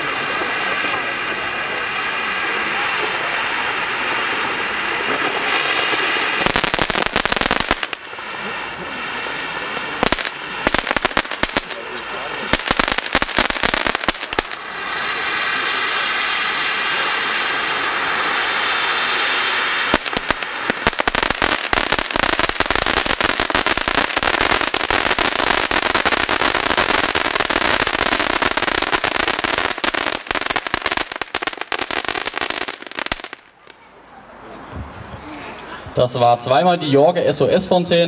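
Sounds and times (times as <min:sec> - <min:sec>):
firework crackling: 0:00.0 - 0:33.9
firework fountain hissing: 0:00.0 - 0:38.0.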